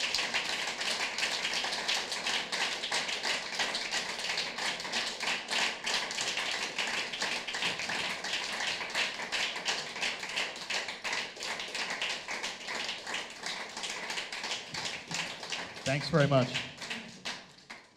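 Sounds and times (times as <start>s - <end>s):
audience applauding: 0.0s - 17.9s.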